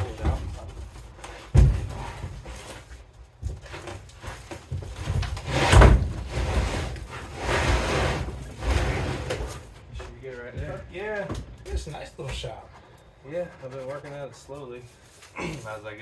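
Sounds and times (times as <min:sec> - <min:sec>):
wood scraping and knocking: 0:00.0 - 0:15.5.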